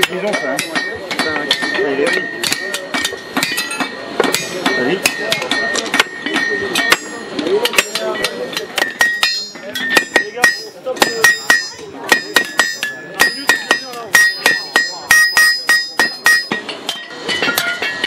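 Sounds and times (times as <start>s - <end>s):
sledgehammers striking metal on anvil: 0.0s - 18.0s.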